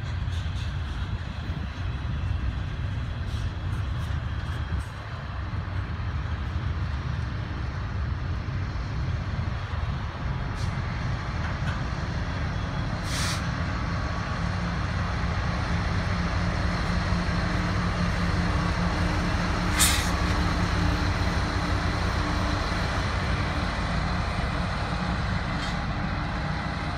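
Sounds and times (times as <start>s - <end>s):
diesel locomotive engine drone: 0.0s - 26.9s
freight train cars rumbling on rails: 0.0s - 26.9s.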